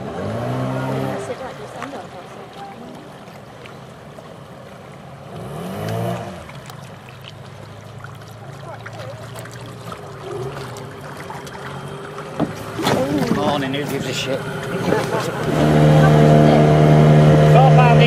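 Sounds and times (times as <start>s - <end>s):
outboard motor running: 0.0s - 18.0s
water splashing around hull: 0.0s - 18.0s.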